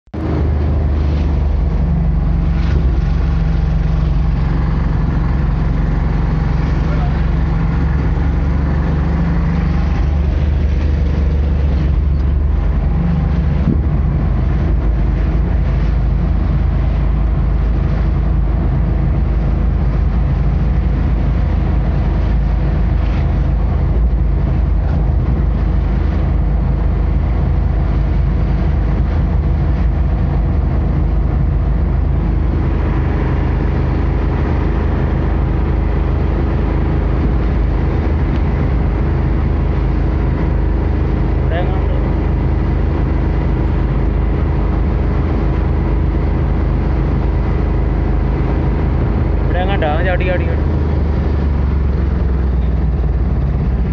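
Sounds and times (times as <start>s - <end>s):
vehicle engine and road drone: 0.1s - 53.9s.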